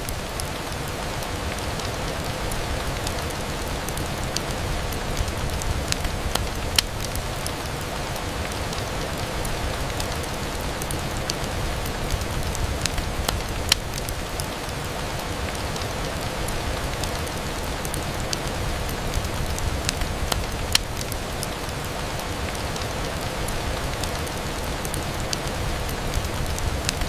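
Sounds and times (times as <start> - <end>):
rain on a window: 0.0 - 27.0.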